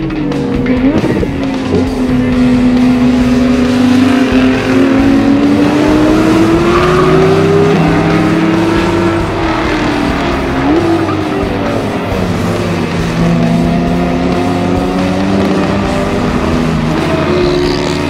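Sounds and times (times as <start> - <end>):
race car engine at high revs: 0.0 - 18.0.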